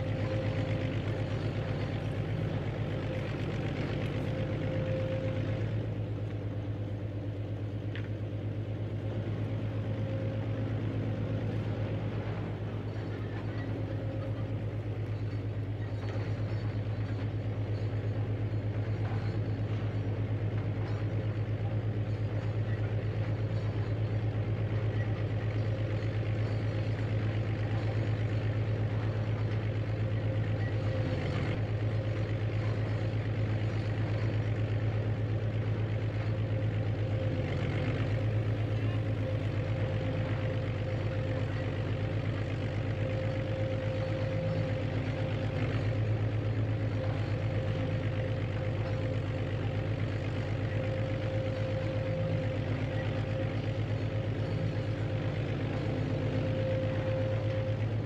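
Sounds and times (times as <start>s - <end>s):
heavy machine engine idling: 0.0s - 58.0s.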